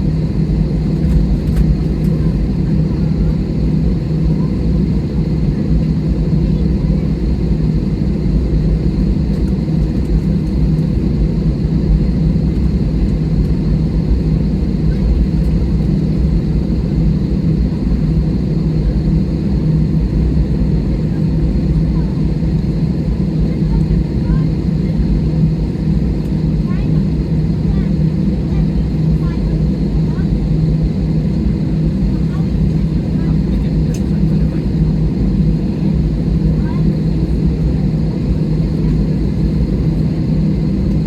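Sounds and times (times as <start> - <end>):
cabin air system hum: 0.0 - 41.0.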